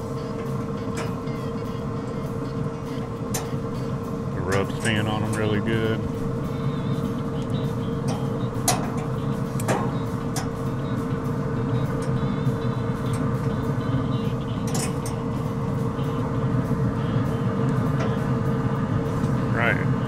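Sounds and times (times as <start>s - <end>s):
pellet grill fan humming: 0.0s - 20.0s.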